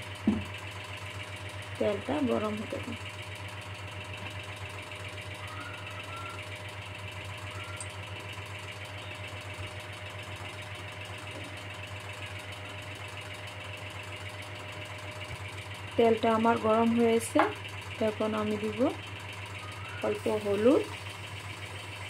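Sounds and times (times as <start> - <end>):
small motor humming: 0.0 - 22.0.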